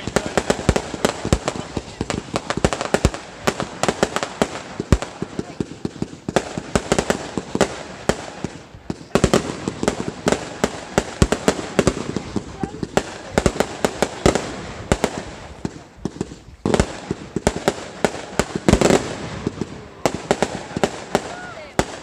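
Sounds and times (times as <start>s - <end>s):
fireworks banging and crackling: 0.0s - 22.0s.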